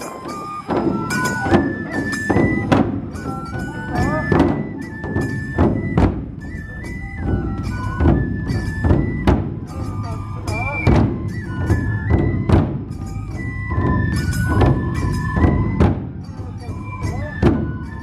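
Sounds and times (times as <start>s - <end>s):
bamboo flute melody: 0.0s - 18.0s
heavy festival drum strikes: 0.0s - 18.0s.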